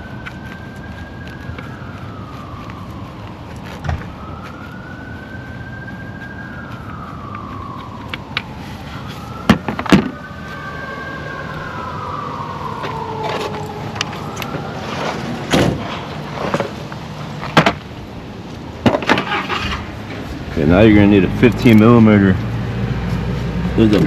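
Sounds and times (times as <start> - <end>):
siren wailing: 0.0 - 18.5, 19.2 - 24.0.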